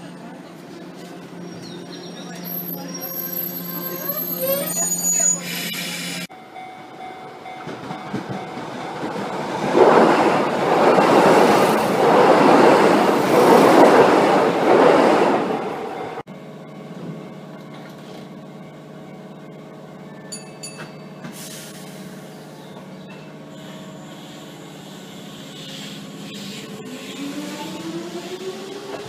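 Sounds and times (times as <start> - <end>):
electric train passing: 0.0 - 29.0
standing train humming: 0.0 - 29.0.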